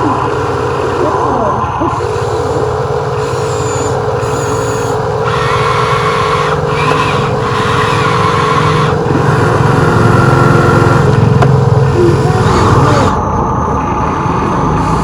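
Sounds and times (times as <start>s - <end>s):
toy excavator machinery whine: 0.0s - 15.0s.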